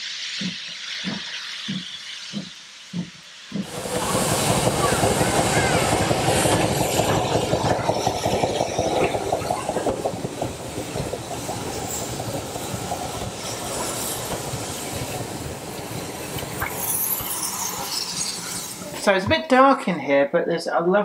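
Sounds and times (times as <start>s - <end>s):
steam train passing: 0.0s - 19.2s
wheels clacking on rails: 0.3s - 19.5s.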